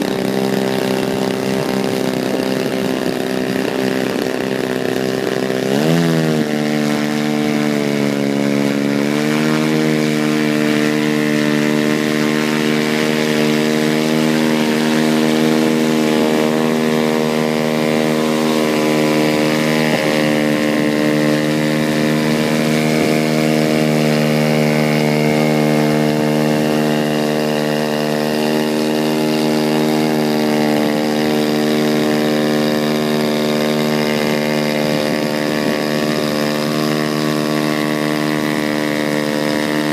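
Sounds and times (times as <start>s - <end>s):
model plane engine running: 0.0s - 39.9s.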